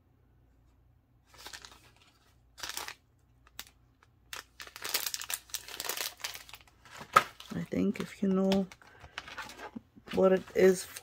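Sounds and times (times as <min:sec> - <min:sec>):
plastic packaging crinkling: 0:01.3 - 0:11.0.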